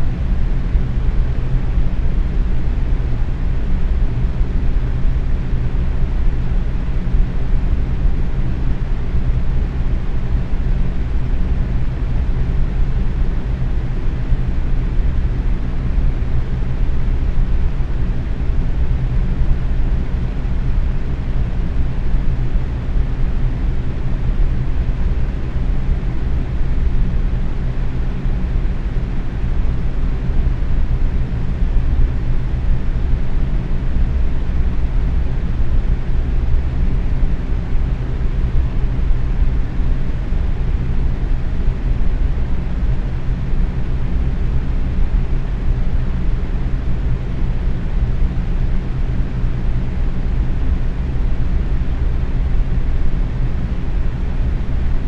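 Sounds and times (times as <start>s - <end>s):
fan whooshing air: 0.0s - 55.0s.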